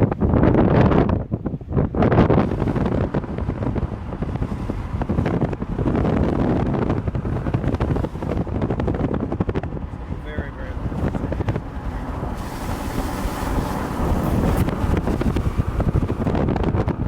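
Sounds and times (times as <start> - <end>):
gusty wind on microphone: 0.0 - 17.0.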